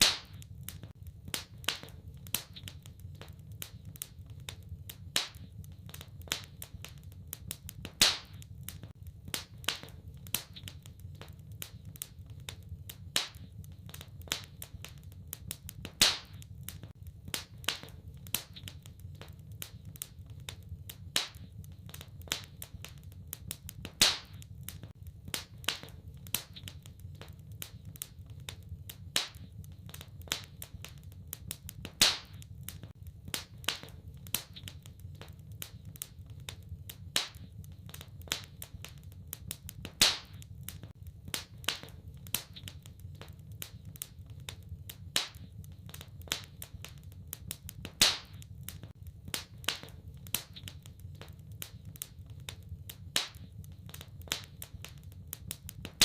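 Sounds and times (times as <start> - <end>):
sharp pops from logs: 0.0 - 56.0
wood fire crackling: 0.0 - 56.0.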